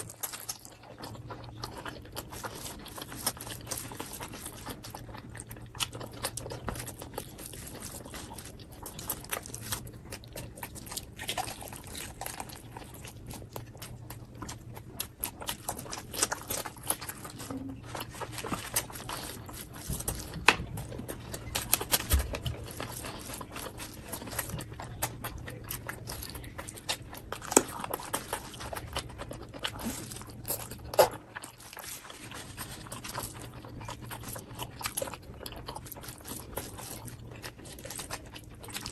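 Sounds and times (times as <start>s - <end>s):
faint low hum: 0.0s - 38.9s
person chewing and crunching food: 0.0s - 38.9s.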